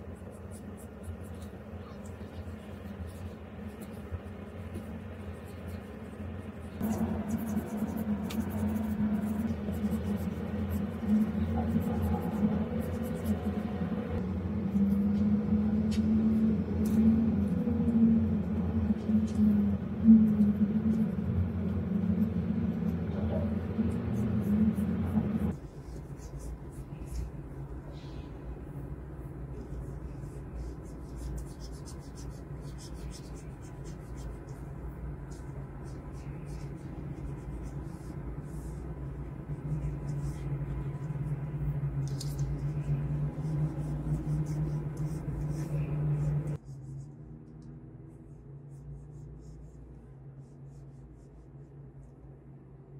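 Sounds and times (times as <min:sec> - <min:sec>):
stylus scratching and tapping screen: 0:00.0 - 0:15.3, 0:15.9 - 0:28.2, 0:29.5 - 0:47.3
steady low hum: 0:00.0 - 0:52.9.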